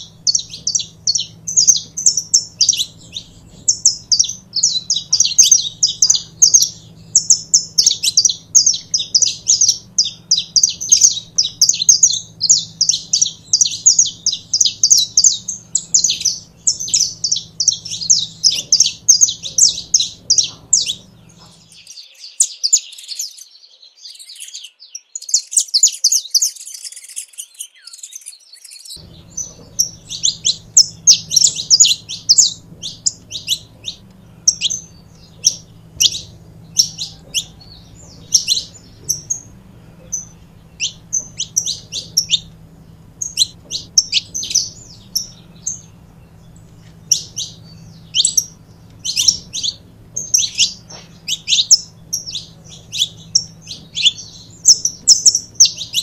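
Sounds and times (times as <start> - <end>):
finch chirping: 0.0 - 56.0.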